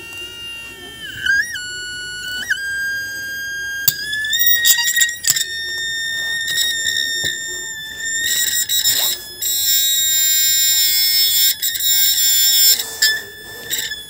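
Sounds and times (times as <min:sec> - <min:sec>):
electric motor high-pitched whine: 0:00.0 - 0:14.0
fingers rubbing and tapping hub: 0:00.0 - 0:14.0.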